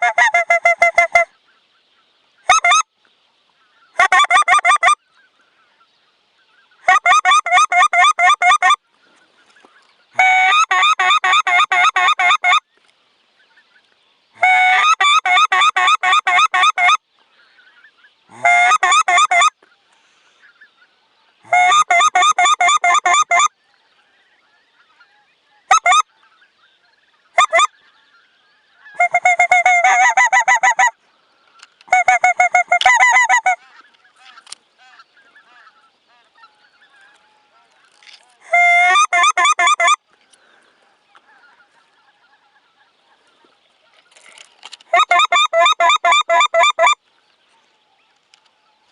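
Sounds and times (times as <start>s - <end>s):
geese honking: 0.0s - 48.9s.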